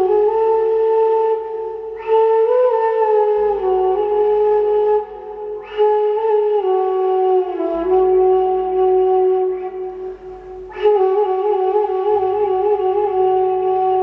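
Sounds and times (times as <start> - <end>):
flute playing long notes: 0.0 - 14.0.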